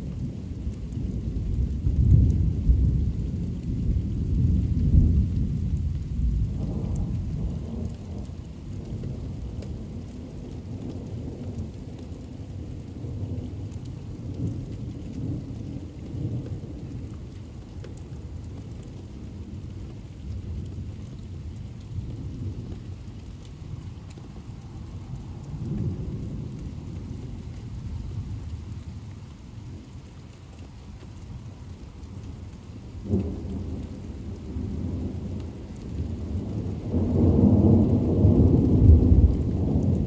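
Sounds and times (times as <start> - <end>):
steady rain: 0.0 - 40.0
thunder rumbling: 1.0 - 20.9, 23.6 - 28.8, 32.8 - 40.0.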